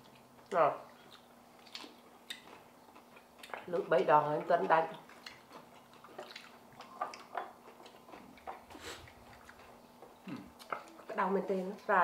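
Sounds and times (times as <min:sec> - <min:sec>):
soft chewing and lip smacking: 0:00.0 - 0:11.9.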